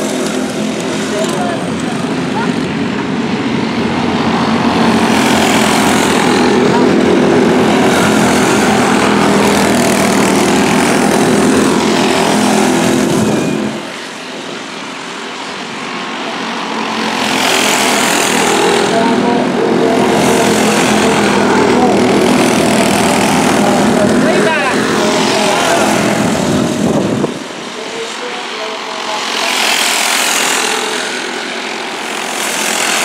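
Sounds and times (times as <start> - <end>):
go-kart engines racing past: 0.0 - 33.0.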